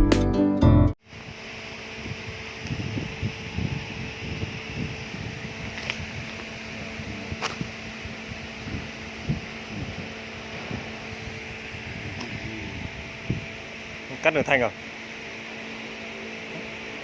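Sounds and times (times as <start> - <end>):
machine hum: 1.1 - 17.0.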